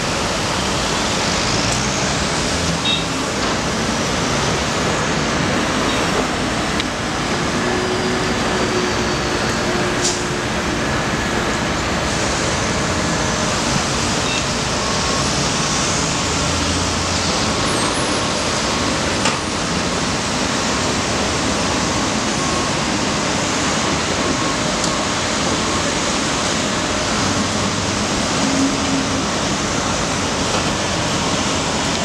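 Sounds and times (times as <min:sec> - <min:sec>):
city traffic noise: 0:00.0 - 0:32.0.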